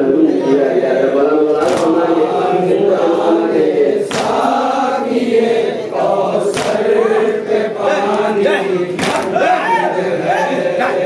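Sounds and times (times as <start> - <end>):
group chanting a lament: 0.0 - 11.0.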